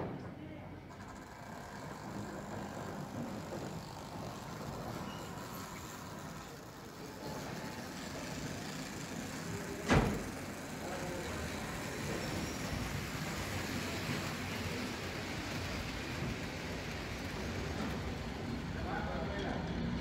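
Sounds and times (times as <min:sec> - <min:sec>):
model train coaches rattling: 0:00.8 - 0:20.0.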